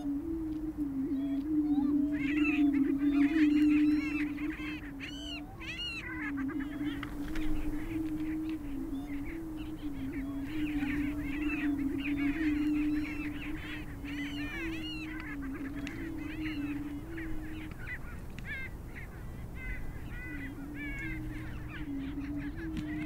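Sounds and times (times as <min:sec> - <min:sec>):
bird cackles and whoops: 0:01.1 - 0:23.0.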